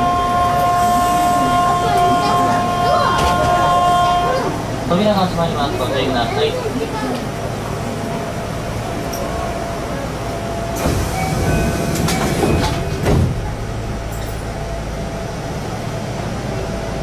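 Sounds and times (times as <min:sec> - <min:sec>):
train doors closing: 0:00.0 - 0:16.7
train equipment humming: 0:00.0 - 0:17.0.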